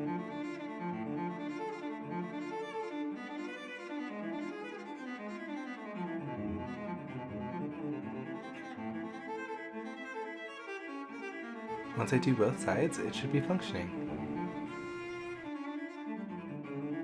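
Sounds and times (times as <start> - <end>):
bowed strings music: 0.0 - 17.0.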